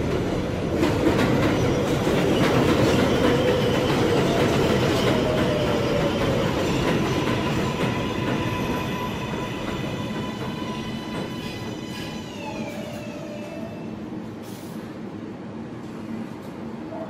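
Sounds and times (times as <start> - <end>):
train rumbling into station: 0.0 - 17.0.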